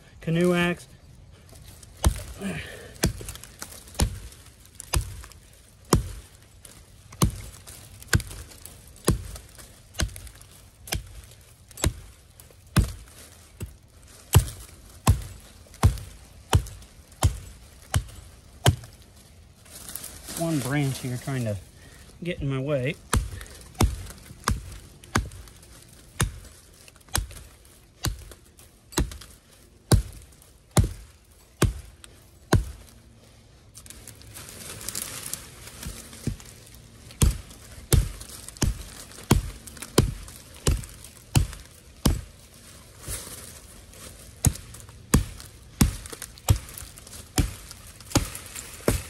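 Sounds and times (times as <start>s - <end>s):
branches and leaves rustling: 0.0s - 49.0s
axe chopping tree trunk: 1.5s - 19.3s, 22.4s - 33.0s, 34.8s - 43.5s, 44.1s - 49.0s.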